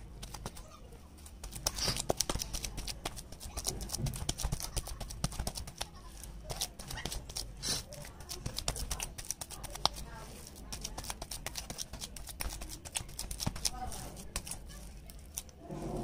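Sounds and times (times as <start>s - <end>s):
fingers mashing wet potato: 0.0s - 15.6s.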